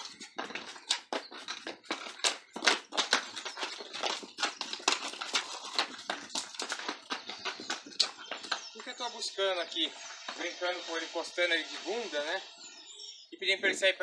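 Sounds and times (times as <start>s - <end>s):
hooves on hard dirt: 0.0s - 13.0s.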